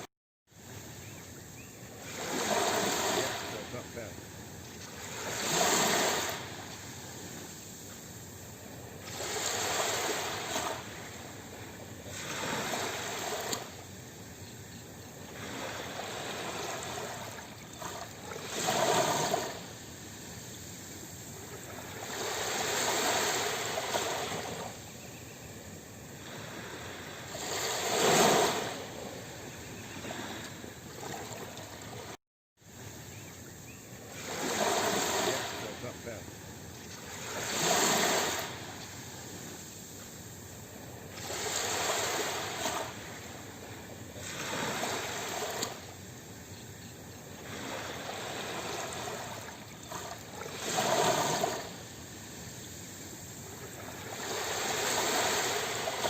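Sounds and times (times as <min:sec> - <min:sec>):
sea waves washing on shore: 0:01.8 - 0:33.0, 0:34.0 - 0:56.0.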